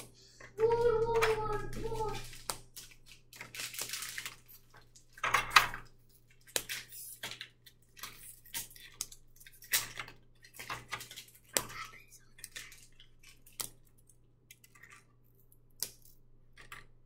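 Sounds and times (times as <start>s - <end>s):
hands handling food: 0.5s - 17.0s.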